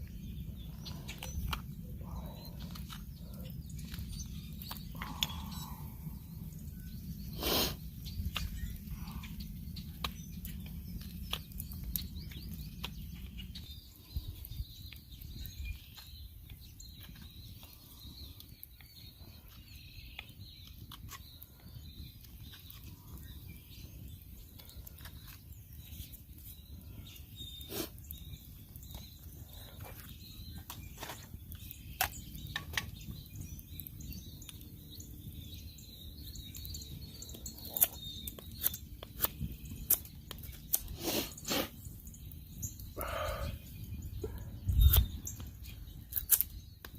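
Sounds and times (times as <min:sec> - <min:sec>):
small clicks and cracks: 0:00.0 - 0:05.7, 0:08.0 - 0:41.0, 0:44.3 - 0:46.9
faint bird chirps: 0:00.0 - 0:46.9.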